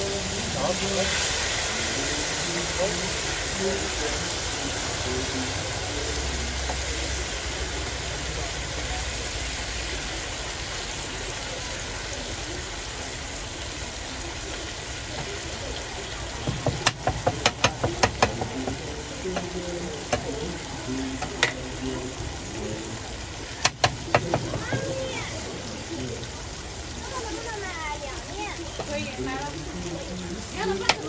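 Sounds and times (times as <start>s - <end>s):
food sizzling on a griddle: 0.0s - 31.0s.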